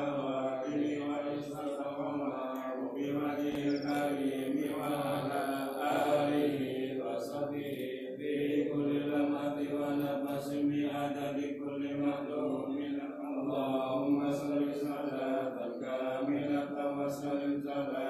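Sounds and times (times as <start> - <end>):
men chanting: 0.0 - 18.0.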